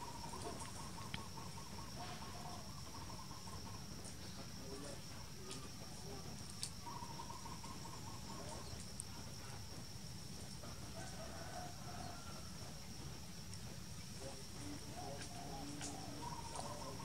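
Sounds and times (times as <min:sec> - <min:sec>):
distant bird calls: 0:00.0 - 0:17.0
high-pitched insect drone: 0:00.0 - 0:17.0.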